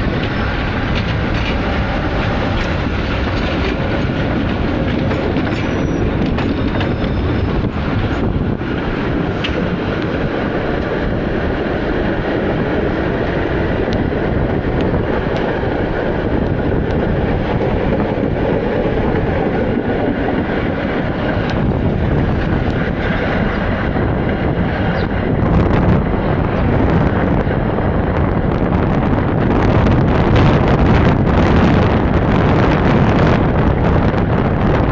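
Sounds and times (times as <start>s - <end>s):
tram wheels rumbling on rails: 0.0s - 34.9s.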